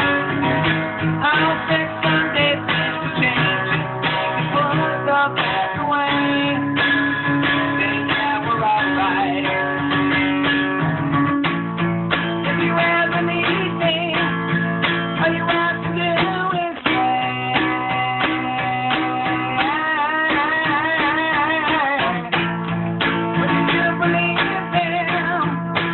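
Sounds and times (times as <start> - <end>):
acoustic guitar strumming: 0.0 - 25.9.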